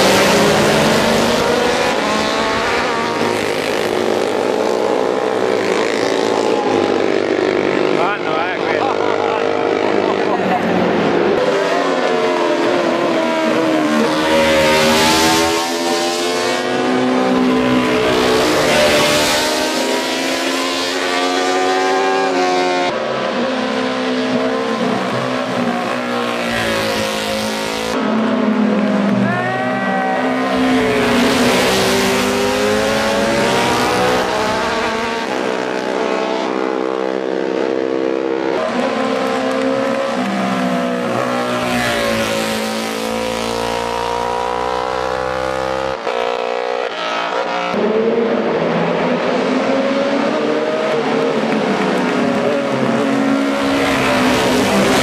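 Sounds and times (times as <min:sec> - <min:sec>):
racing motorcycles passing at speed: 0:00.0 - 0:55.0.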